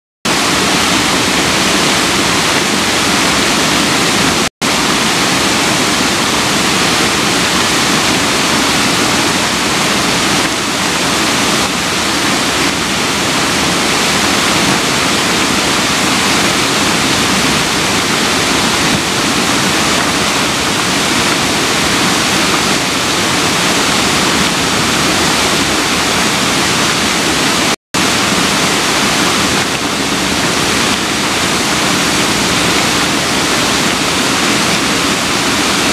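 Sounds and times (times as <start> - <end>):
waterfall crashing onto rocks: 0.3 - 35.9.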